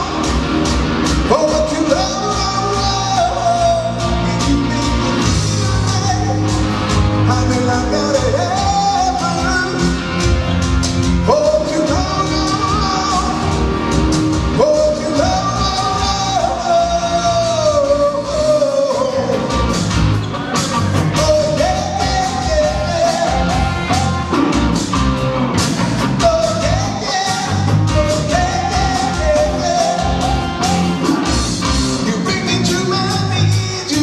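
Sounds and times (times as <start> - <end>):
man singing lead: 0.0 - 10.2, 11.1 - 19.8, 21.1 - 24.8, 26.1 - 34.0
live rock band playing: 0.0 - 34.0.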